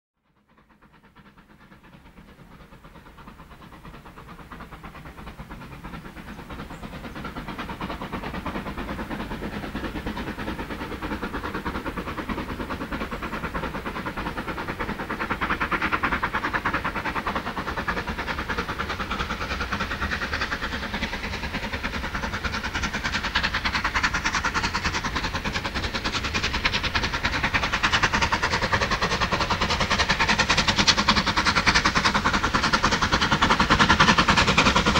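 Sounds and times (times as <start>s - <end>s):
steam locomotive exhaust beat: 0.2s - 34.9s.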